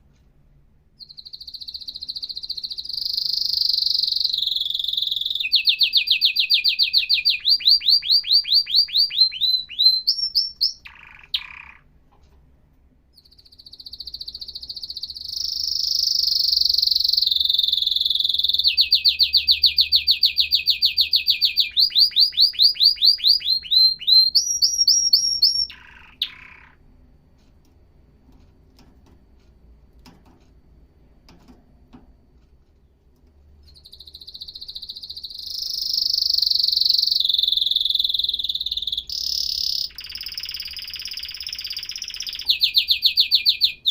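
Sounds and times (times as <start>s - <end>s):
canary singing: 1.0s - 12.0s, 13.1s - 26.9s, 33.6s - 43.9s.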